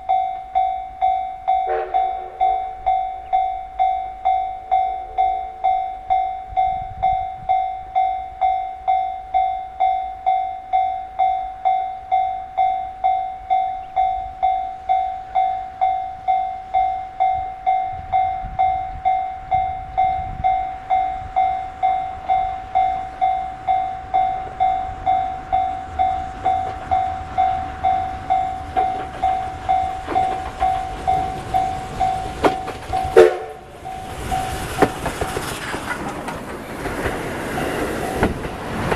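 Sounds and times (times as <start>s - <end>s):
level crossing bell ringing: 0.0s - 34.7s
steam locomotive exhaust beats: 0.0s - 38.9s.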